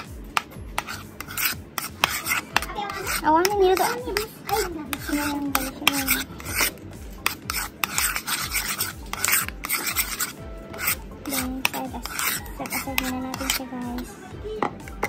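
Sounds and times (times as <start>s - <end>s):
metal spoon scraping ceramic bowl: 0.0s - 15.0s.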